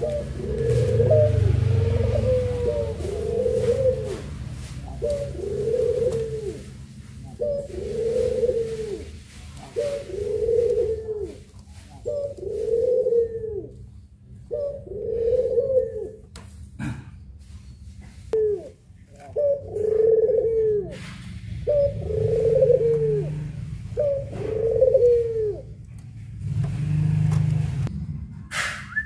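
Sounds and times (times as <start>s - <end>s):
dove cooing: 0.0s - 16.3s, 18.3s - 25.9s.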